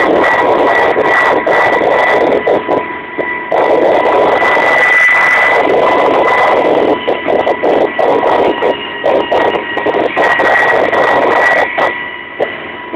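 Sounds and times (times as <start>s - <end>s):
helicopter engines and rotors: 0.0s - 12.9s
high-pitched whine: 0.0s - 12.9s.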